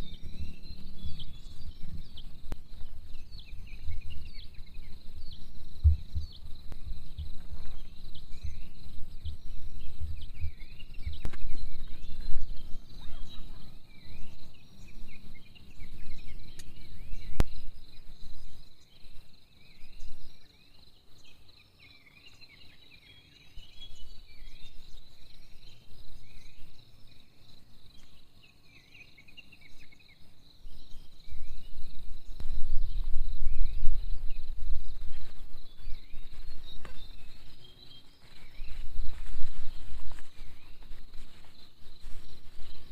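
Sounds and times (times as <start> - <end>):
insect trill: 0.0 - 42.9.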